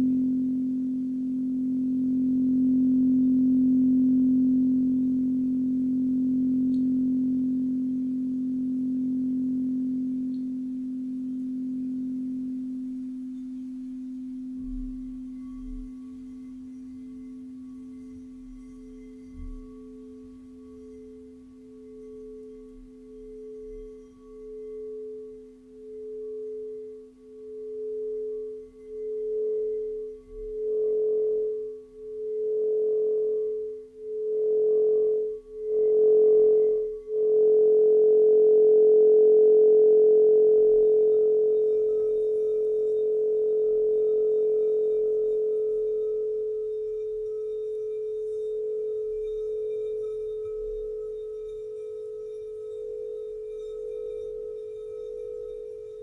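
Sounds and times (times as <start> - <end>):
low singing bowl ringing: 0.0 - 56.0
singing bowl rim rubbed: 0.0 - 56.0.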